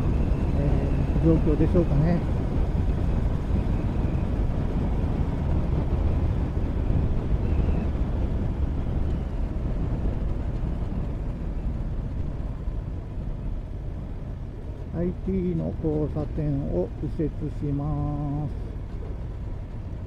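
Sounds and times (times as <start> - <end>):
motorcycle engine and road rumble: 0.0 - 20.0.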